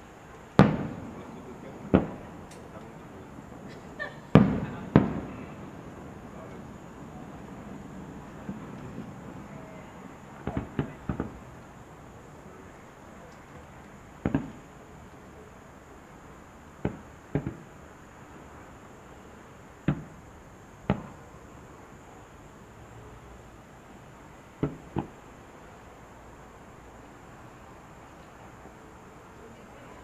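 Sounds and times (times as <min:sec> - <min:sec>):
fireworks bangs: 0:00.0 - 0:22.2, 0:23.8 - 0:25.9.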